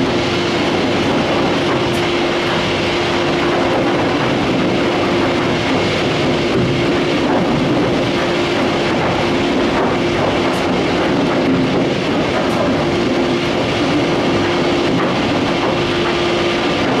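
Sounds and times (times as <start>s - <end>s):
industrial machinery running: 0.0s - 17.0s.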